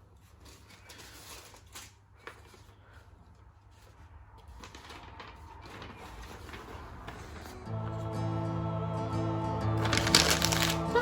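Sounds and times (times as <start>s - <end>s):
rustling: 0.0s - 7.7s, 9.8s - 11.0s.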